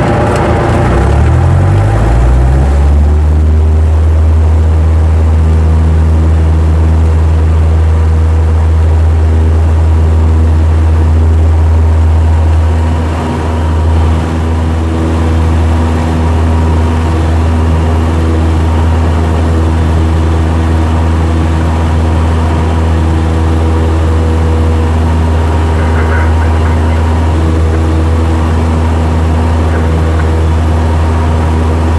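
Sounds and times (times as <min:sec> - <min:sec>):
propeller plane engine drone: 0:00.0 - 0:31.9.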